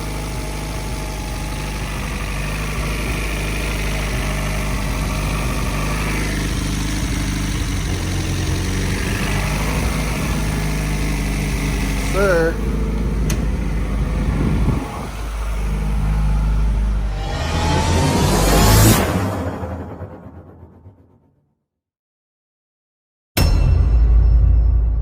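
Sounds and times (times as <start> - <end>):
car engine running steadily: 0.0 - 20.4.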